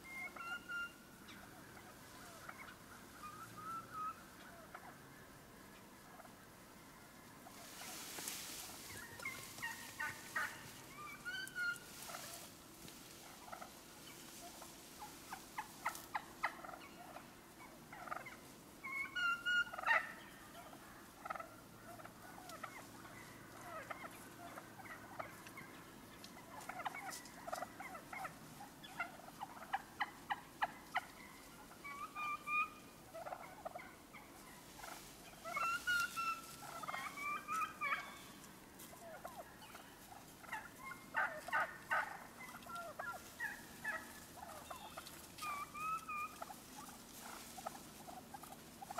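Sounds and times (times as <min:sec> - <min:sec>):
turkeys yelping and clucking: 0:00.0 - 0:48.9.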